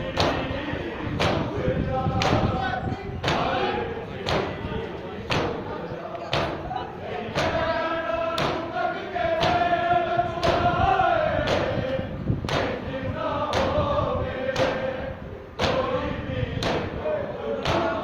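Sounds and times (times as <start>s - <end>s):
men chanting in unison: 0.0s - 18.0s
rhythmic chest-beating: 0.0s - 18.0s.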